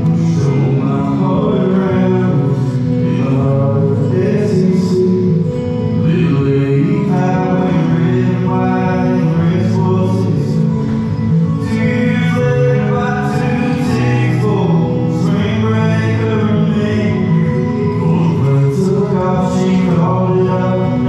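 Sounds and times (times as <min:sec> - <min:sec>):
electric and acoustic guitars: 0:00.0 - 0:21.0
man singing into a microphone: 0:00.0 - 0:21.0.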